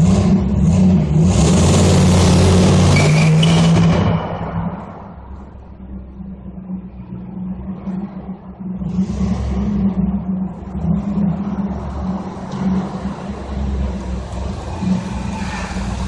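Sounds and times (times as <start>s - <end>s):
car exhaust in parking garage: 0.0s - 16.0s.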